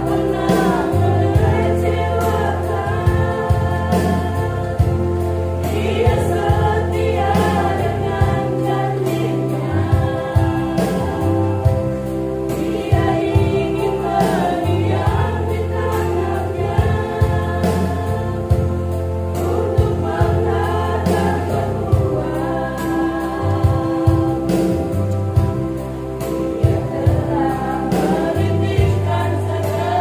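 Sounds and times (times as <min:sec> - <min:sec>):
low bass accompaniment: 0:00.0 - 0:30.0
women singing gospel: 0:00.0 - 0:30.0.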